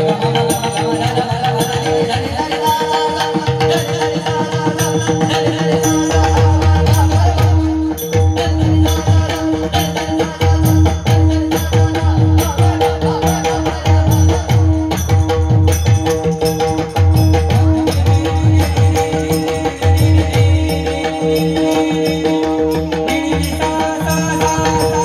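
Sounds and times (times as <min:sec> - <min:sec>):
jingling rattling percussion: 0:00.0 - 0:25.0.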